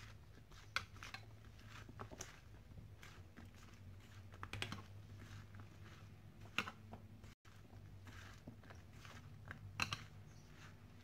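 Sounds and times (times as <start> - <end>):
vegetable slices rubbed in a bowl: 0.0 - 11.0.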